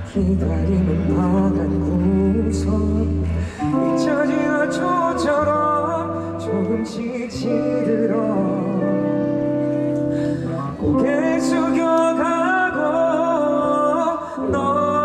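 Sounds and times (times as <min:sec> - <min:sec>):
person singing slow song: 0:00.0 - 0:15.0
sustained accompanying chords: 0:00.0 - 0:15.0.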